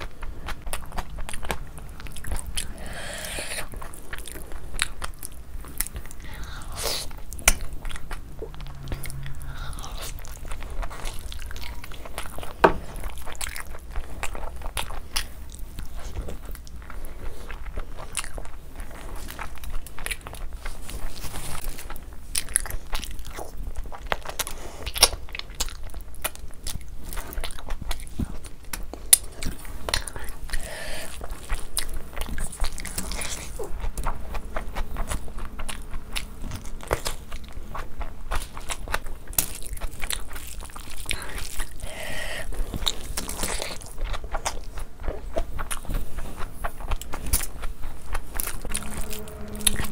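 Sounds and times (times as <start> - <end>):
mouth clicks and crunches: 0.0 - 49.4
person chewing meat: 0.0 - 49.9.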